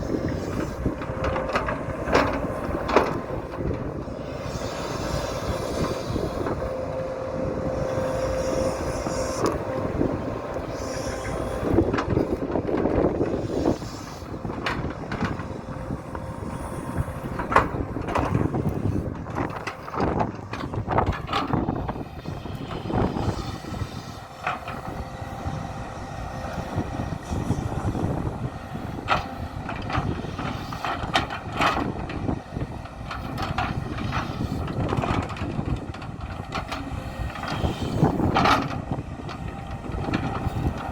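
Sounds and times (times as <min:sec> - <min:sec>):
excavator engine running: 0:00.0 - 0:40.9
faint steady whine: 0:00.0 - 0:40.9.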